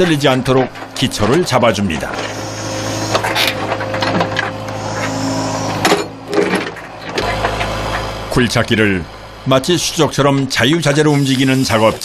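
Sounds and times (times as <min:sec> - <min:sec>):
excavator engine hum: 0:00.0 - 0:12.0
hydraulic whine: 0:01.2 - 0:12.0.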